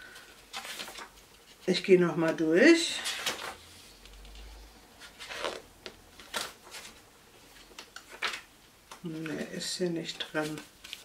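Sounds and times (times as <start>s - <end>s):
paper pages turning: 0.1s - 1.6s, 3.0s - 11.0s.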